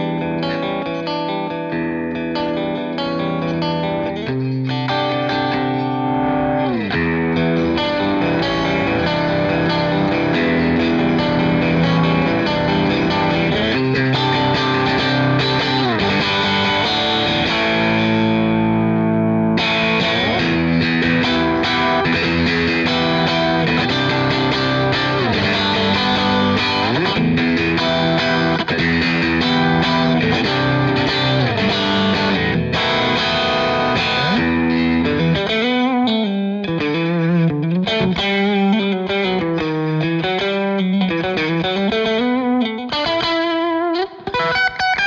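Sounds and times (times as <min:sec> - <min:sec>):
overdriven electric guitar playing: 0:00.0 - 0:45.0.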